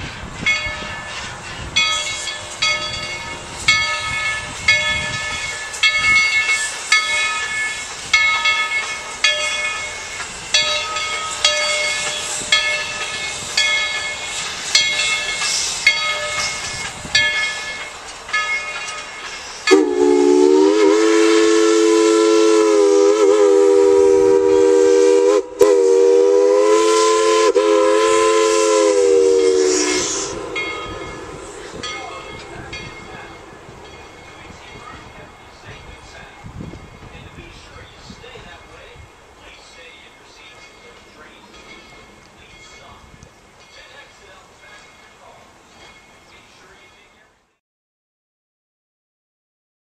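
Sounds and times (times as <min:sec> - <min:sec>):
steam train running with clicks: 0:00.0 - 0:47.6.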